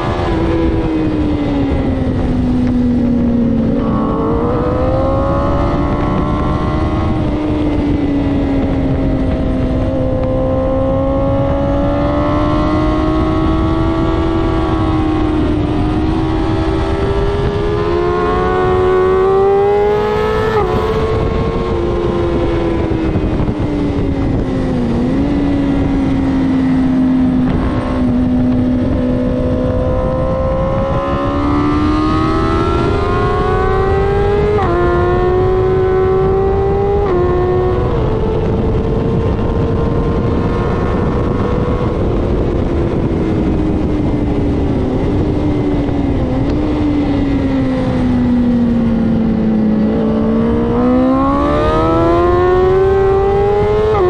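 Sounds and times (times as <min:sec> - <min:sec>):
motorbike engine revving: 0:00.0 - 0:54.0
wind on microphone: 0:00.0 - 0:54.0.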